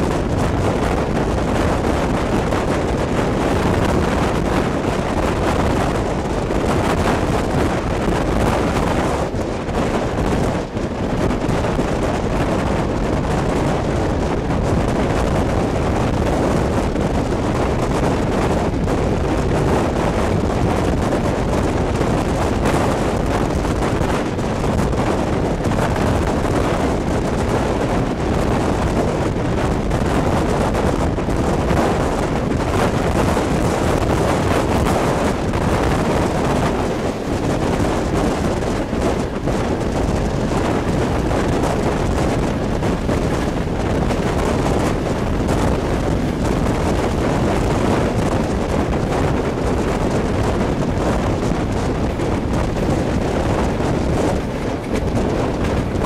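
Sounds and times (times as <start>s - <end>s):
train rumbling on track: 0.0s - 56.0s
wind buffeting microphone: 0.0s - 56.0s.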